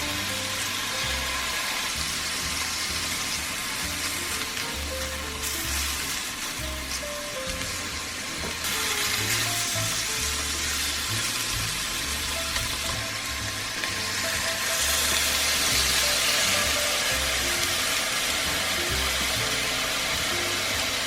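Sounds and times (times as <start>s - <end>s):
background music with bass line: 0.0s - 21.0s
food sizzling in a pan: 0.0s - 21.0s.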